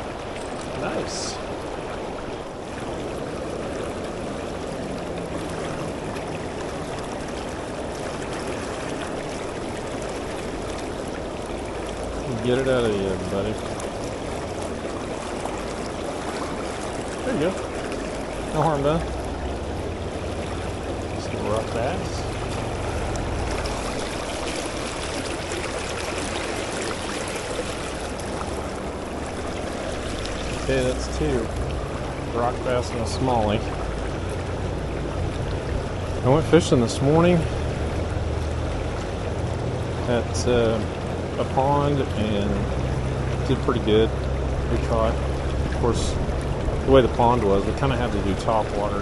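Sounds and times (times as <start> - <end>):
creek rushing: 0.0 - 49.0.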